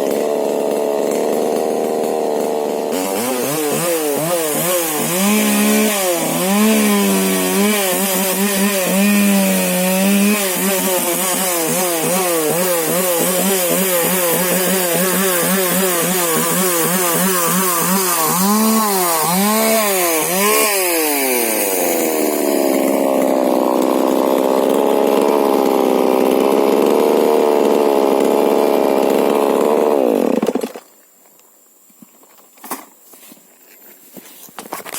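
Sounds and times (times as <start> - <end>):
chainsaw engine revving and idling: 0.0 - 30.8.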